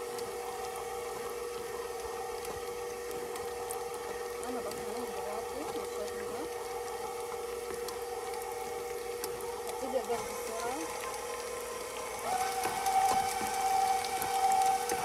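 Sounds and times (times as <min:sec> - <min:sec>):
electric stand mixer humming: 0:00.0 - 0:15.0.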